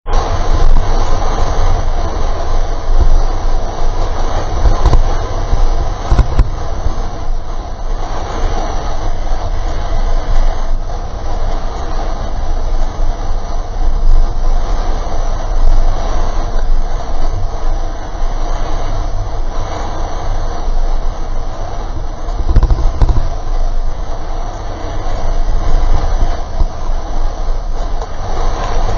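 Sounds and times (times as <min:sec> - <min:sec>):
boat engine rumble: 0:00.0 - 0:28.9
wind and water rushing: 0:00.0 - 0:28.9.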